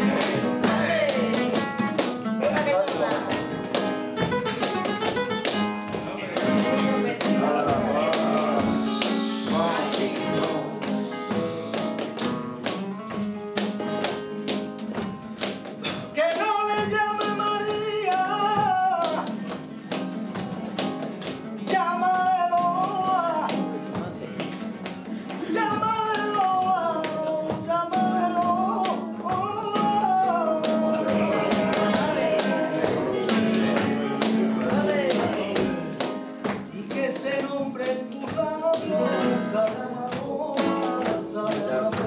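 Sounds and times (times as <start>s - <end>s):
man singing: 0.0s - 12.2s, 16.0s - 19.6s, 21.5s - 24.8s, 25.4s - 42.0s
acoustic guitar strumming: 0.0s - 42.0s
rhythmic hand clapping: 0.0s - 42.0s.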